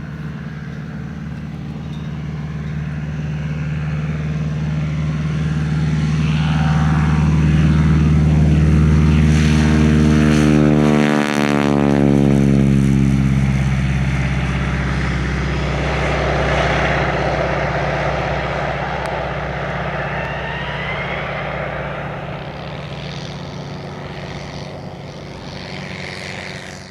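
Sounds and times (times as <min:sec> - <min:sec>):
propeller plane engine drone: 0:00.0 - 0:26.9.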